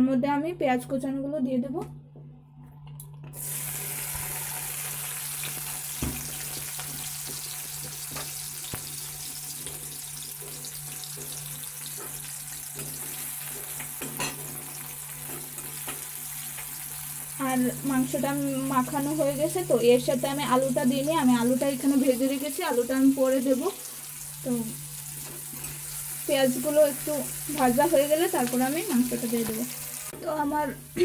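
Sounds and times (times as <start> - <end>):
onions sizzling in hot oil: 3.4 - 31.0.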